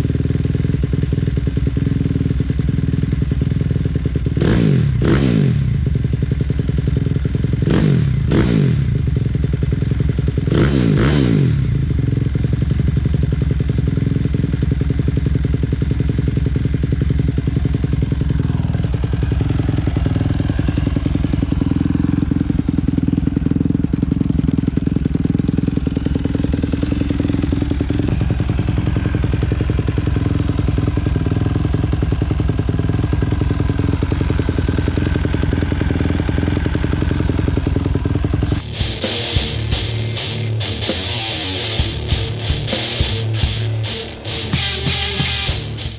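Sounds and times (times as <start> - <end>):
dirt bike engine revving and idling: 0.0 - 45.9.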